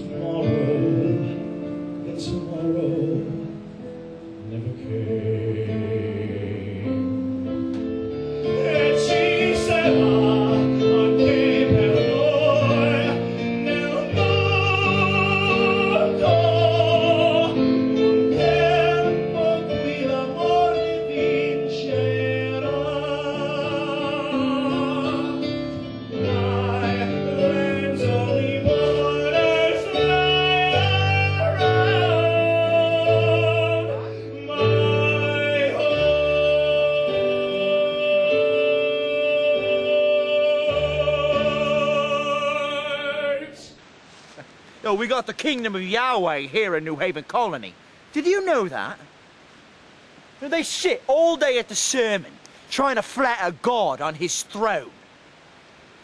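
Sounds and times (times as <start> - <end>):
man singing with vibrato: 0.0 - 56.0.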